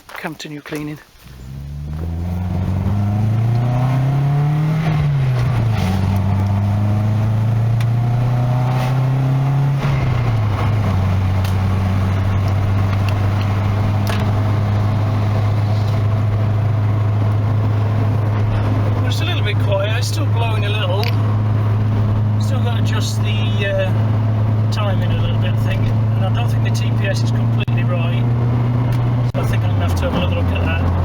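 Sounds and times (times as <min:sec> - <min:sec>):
car engine and exhaust driving: 0:01.1 - 0:31.0.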